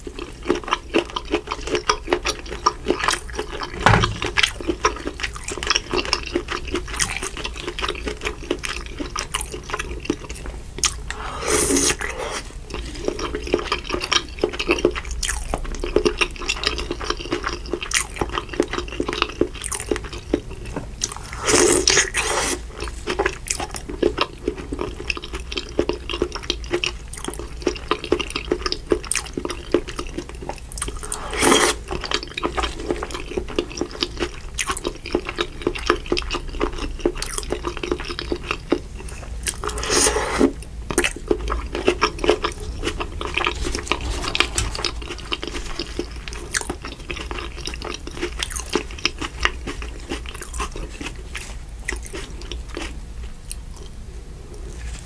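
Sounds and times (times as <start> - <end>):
wet chewing: 0.1 - 53.9.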